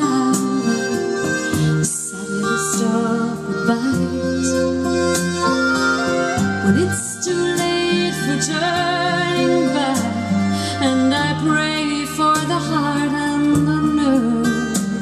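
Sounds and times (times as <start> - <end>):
folk ballad instrumental: 0.0 - 15.0.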